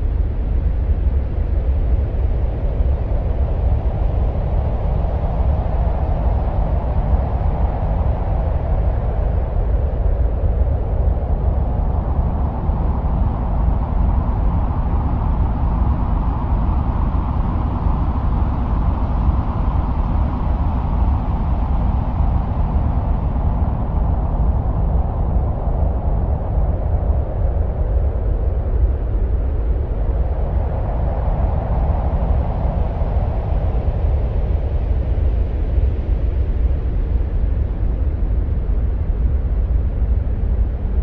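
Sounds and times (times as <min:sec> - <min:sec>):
wind-like rushing and rumbling: 0:00.0 - 0:41.0.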